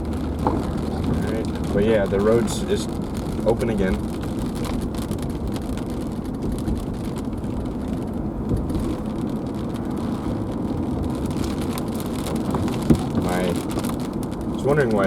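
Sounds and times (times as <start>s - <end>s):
car interior rumble: 0.0s - 15.0s
rain and wind through window: 0.0s - 15.0s.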